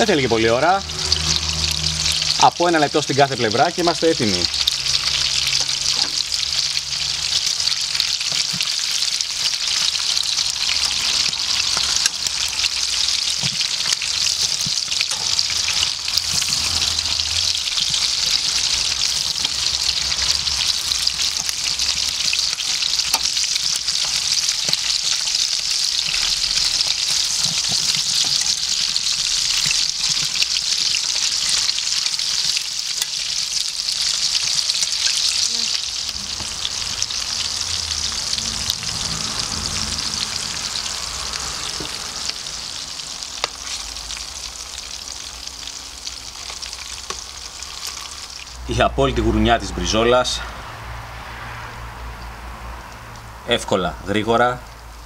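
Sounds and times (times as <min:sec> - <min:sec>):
steak sizzling in a pan: 0:03.6 - 0:48.6.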